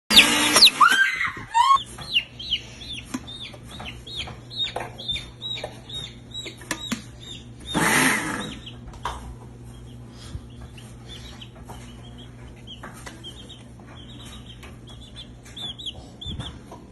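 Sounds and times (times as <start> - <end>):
baby chick peeping: 0.1 - 16.9.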